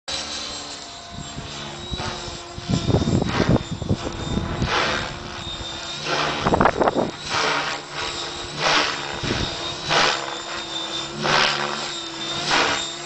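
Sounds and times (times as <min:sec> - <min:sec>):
model helicopter motor and rotor whine: 0:00.1 - 0:13.0.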